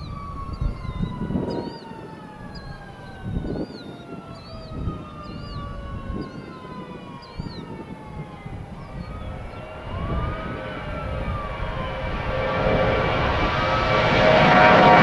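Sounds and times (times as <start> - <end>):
jet airliner taking off: 0.0 - 15.0.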